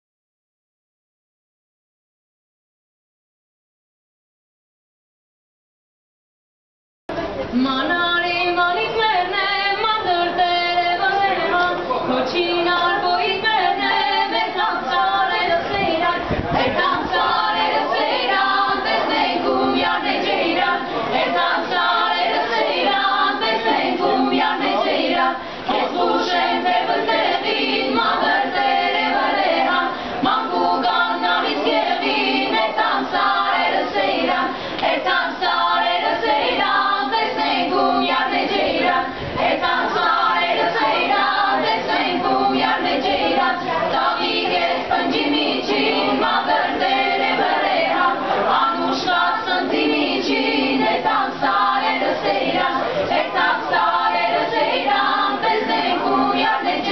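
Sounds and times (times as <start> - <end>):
women singing a cappella: 7.5 - 56.9.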